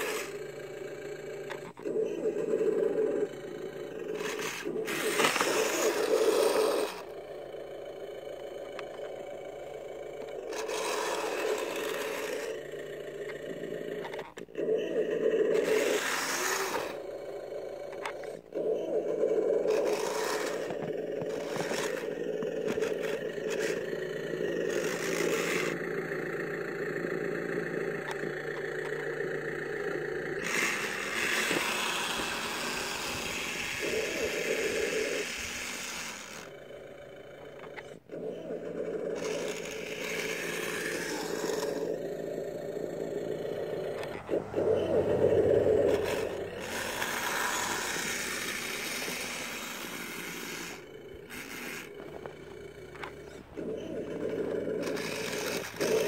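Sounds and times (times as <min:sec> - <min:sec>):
electric motor and gears whining: 0:00.0 - 0:56.0.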